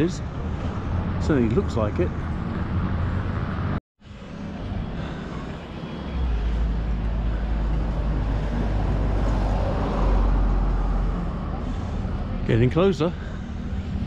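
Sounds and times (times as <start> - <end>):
vehicles passing: 0.0 - 14.0
steady low rumble: 0.2 - 14.0.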